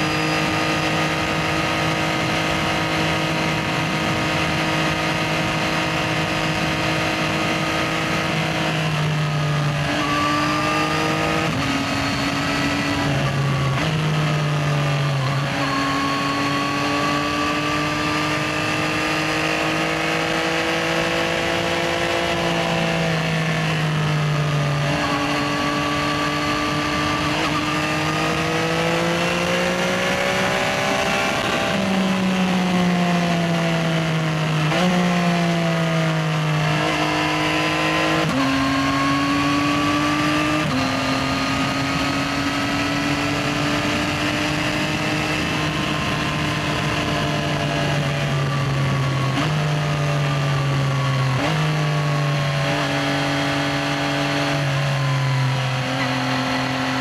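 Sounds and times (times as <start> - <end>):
motorcycle engine revving: 0.0 - 57.0
road and wind noise: 0.0 - 57.0.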